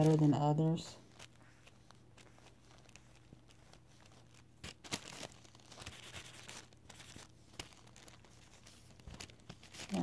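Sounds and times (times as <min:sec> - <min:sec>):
plastic scraping and rustling: 0:00.0 - 0:10.0.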